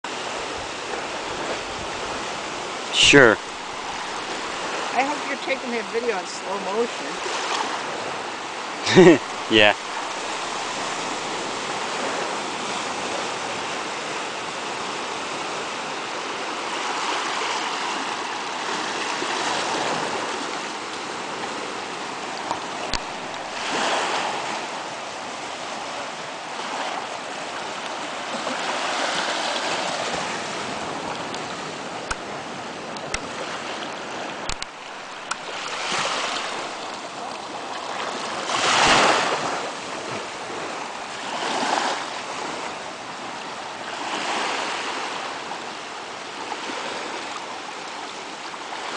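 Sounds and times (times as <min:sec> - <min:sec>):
surf washing up a beach: 0:00.1 - 0:48.9.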